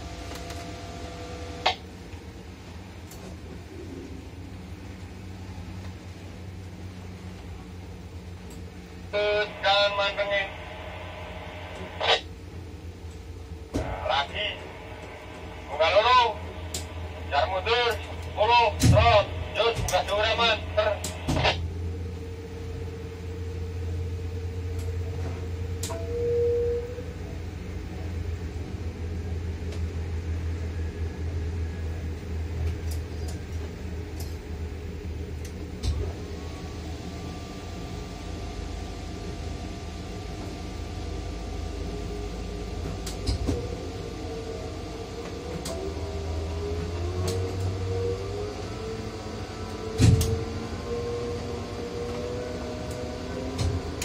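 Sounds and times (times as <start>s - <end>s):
crane machinery hum: 0.0s - 54.0s
whining tone: 3.2s - 54.0s.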